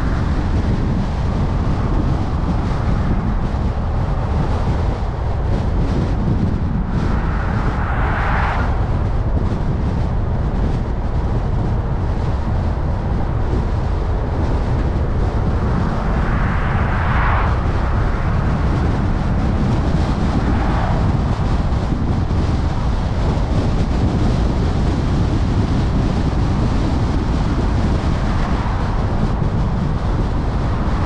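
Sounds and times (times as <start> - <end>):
car road and wind noise: 0.0 - 31.0
low rumble: 0.0 - 31.0.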